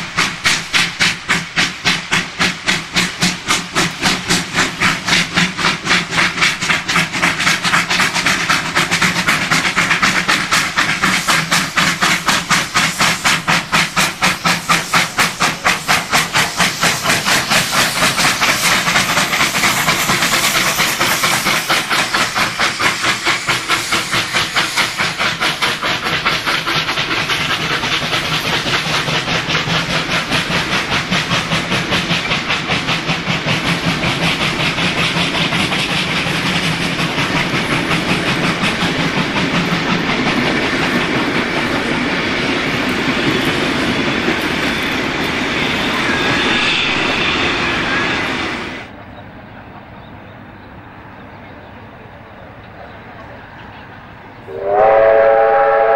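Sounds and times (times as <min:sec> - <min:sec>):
steam hiss: 0:00.0 - 0:49.0
steam locomotive exhaust beats: 0:00.0 - 0:55.9.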